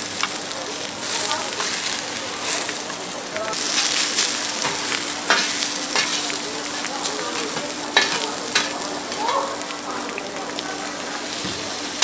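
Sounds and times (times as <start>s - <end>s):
potatoes sizzling on griddle: 0.0s - 12.0s.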